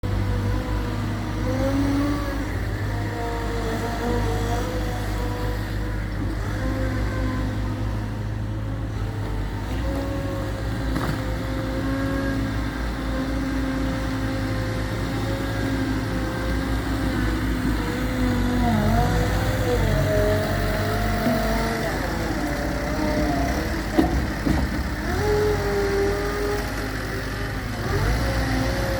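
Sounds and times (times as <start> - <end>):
diesel engine whining: 0.0 - 28.9.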